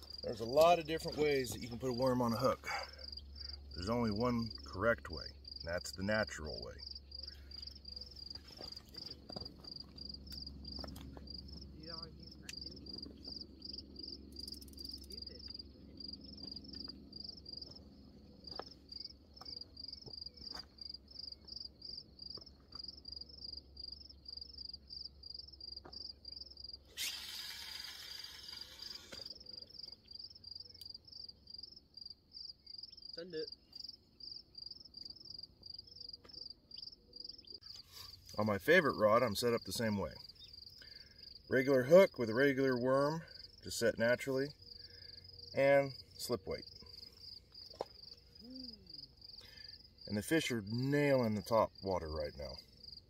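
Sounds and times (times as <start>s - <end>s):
crickets chirping: 0.0s - 53.0s.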